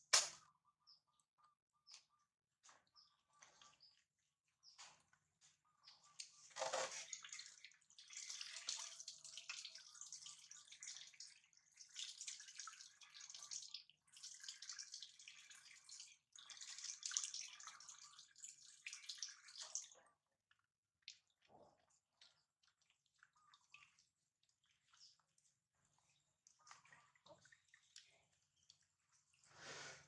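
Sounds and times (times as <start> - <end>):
water dripping into basin: 0.1 - 29.5
water splashing and trickling: 2.6 - 30.0.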